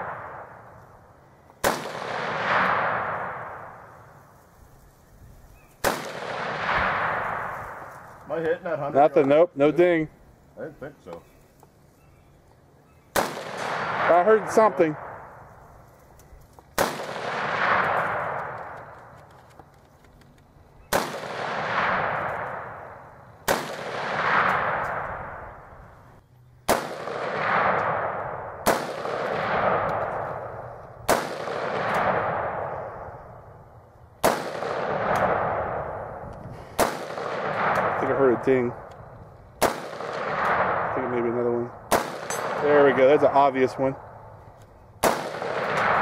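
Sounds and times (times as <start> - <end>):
rifle shots with echo: 0.0 - 4.4, 5.8 - 10.0, 13.1 - 15.7, 16.7 - 19.4, 20.8 - 26.0, 26.6 - 46.0.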